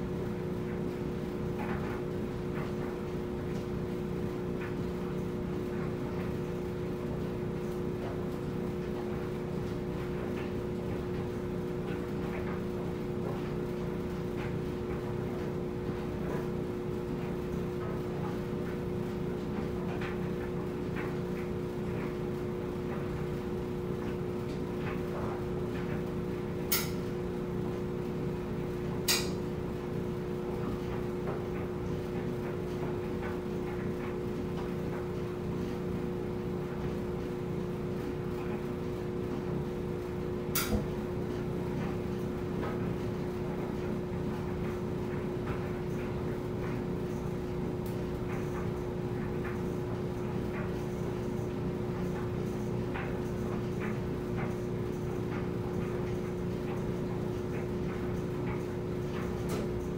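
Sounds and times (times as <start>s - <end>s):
clothes dryer tumbling: 0.0s - 59.9s.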